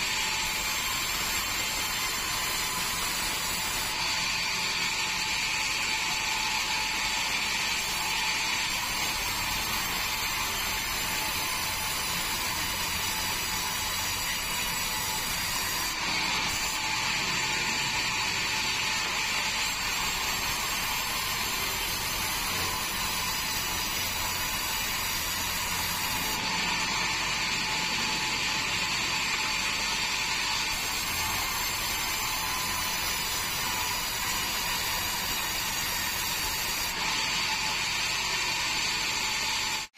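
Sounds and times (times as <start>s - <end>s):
band sawmill whirring: 0.0s - 39.9s.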